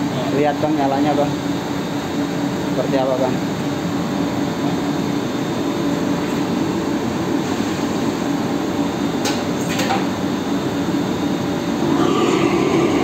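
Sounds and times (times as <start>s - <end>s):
kitchen fans rushing hum: 0.0s - 13.0s.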